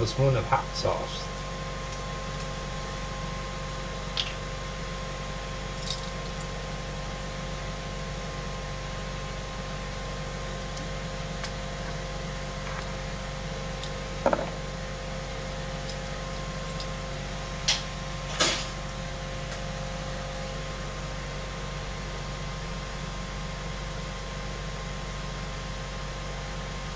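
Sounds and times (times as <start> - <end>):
kitchen appliance humming: 0.0 - 26.9.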